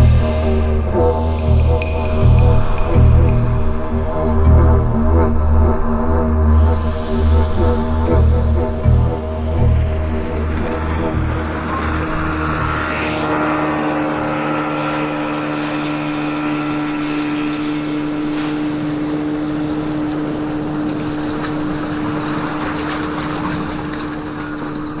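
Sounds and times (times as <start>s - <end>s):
engine droning hum: 0.0s - 25.0s.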